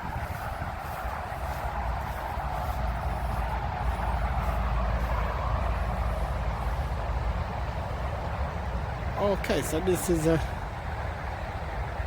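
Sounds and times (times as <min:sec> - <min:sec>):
wind buffeting microphone: 0:00.0 - 0:09.9
road traffic rushing: 0:00.0 - 0:12.0.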